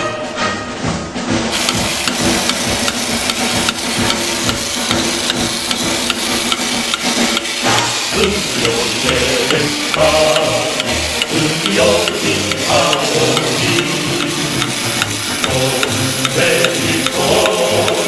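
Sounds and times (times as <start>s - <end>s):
toy motor and gears clicking: 1.5s - 18.0s.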